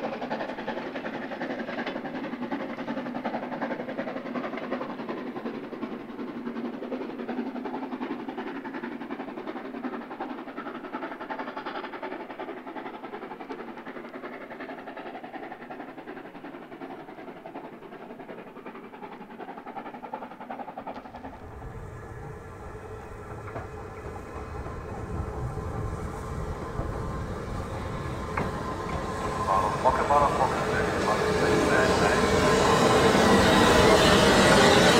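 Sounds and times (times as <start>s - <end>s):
steam locomotive exhaust beats: 0.0s - 34.9s.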